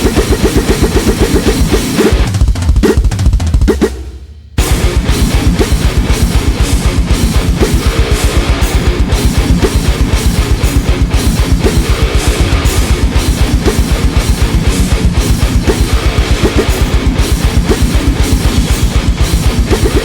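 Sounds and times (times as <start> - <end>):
distorted electric guitar: 0.0 - 2.8, 4.6 - 20.0
fast kick drum: 0.0 - 20.0.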